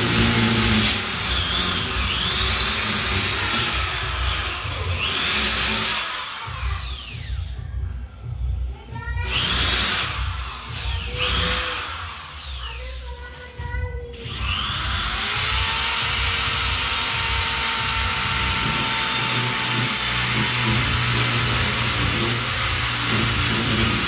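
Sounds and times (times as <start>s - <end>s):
electric drill boring into wall: 0.0s - 7.4s, 9.2s - 12.8s, 14.2s - 24.0s.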